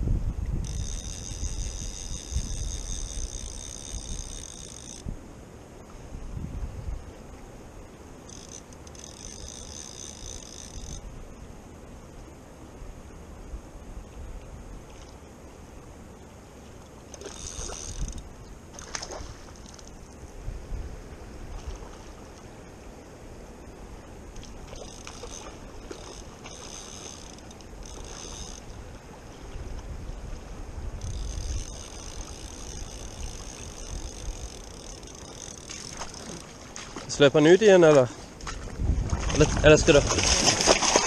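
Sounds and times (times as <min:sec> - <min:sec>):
wind rumbling on microphone: 0:00.0 - 0:41.0.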